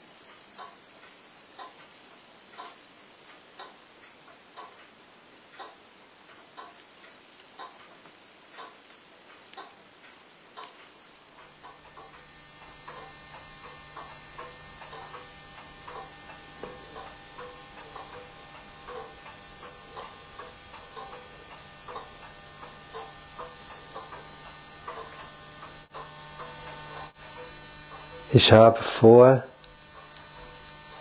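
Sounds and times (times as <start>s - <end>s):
steady low hum: 0.0s - 31.0s
mechanical watch ticking: 0.1s - 31.0s.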